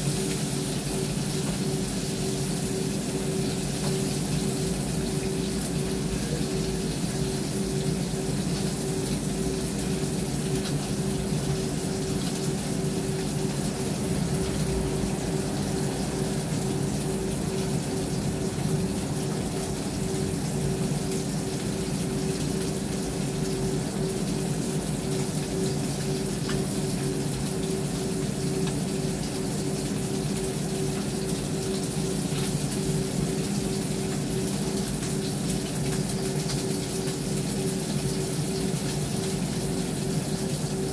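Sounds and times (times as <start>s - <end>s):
food frying in a pan: 0.0s - 40.9s
range hood fan humming: 0.0s - 40.9s.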